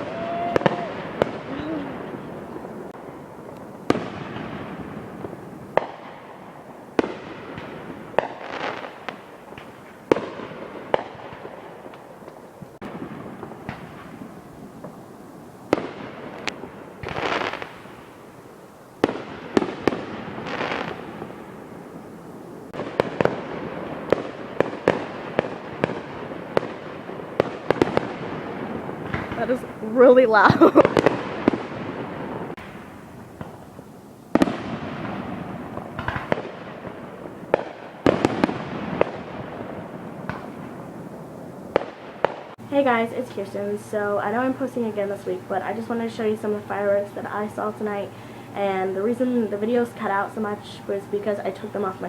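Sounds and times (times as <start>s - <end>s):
fireworks bangs: 0.0s - 52.0s
fireworks hissing: 0.0s - 52.0s.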